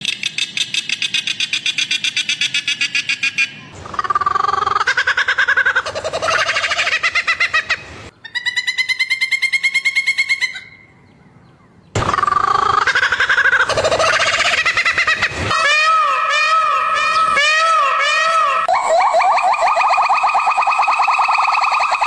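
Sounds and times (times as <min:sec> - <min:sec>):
bird calls with pulsed notes: 0:00.0 - 0:22.0.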